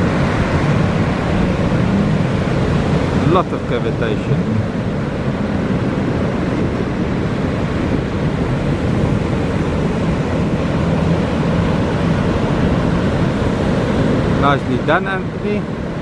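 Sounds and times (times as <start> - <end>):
outboard motors humming: 0.0 - 16.0
wind on microphone: 0.0 - 16.0.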